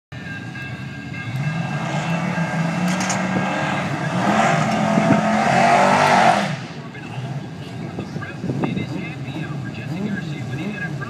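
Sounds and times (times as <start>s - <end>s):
car engine at full throttle: 0.2s - 11.0s.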